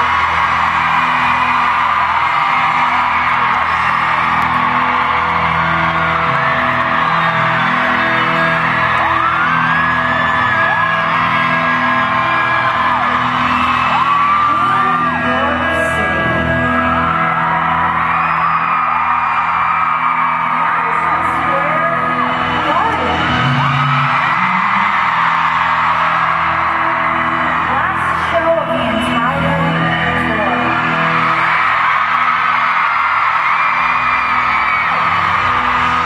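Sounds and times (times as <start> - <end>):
crowd screaming and cheering: 0.0 - 36.0
live pop concert music: 0.0 - 36.0.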